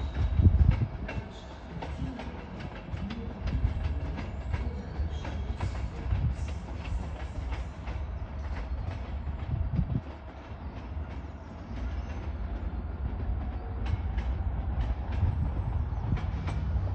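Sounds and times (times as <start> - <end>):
train rumble: 0.0 - 16.9
wheels clicking over rail joints: 0.0 - 16.9.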